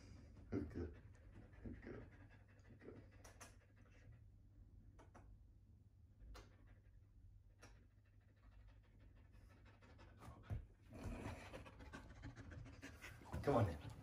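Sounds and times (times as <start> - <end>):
dog panting faintly: 0.0 - 4.6, 6.3 - 14.0.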